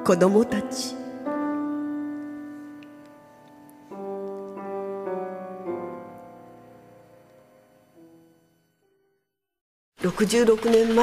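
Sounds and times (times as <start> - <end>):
piano playing slow notes: 0.0 - 9.4.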